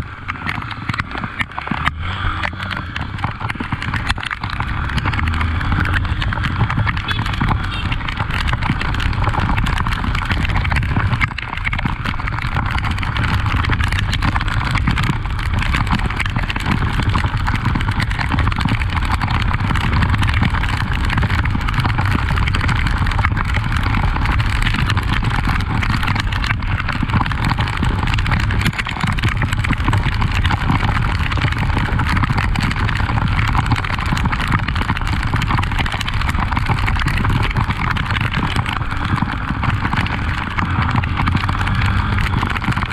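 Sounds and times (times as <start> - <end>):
motorcycle engine running: 0.0 - 42.9
wind noise on microphone: 0.6 - 42.9.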